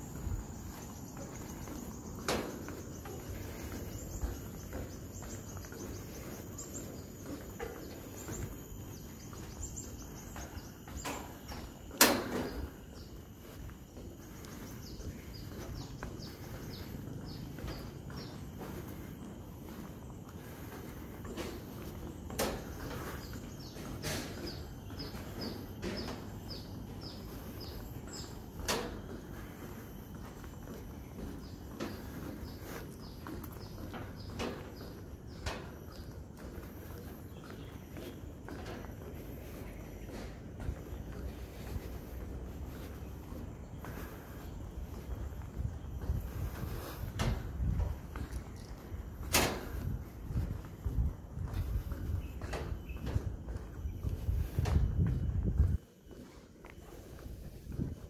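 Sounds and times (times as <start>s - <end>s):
footsteps on steel walkway: 0.0s - 58.0s
insects chirping: 0.0s - 58.0s
outdoor background noise: 0.0s - 58.0s.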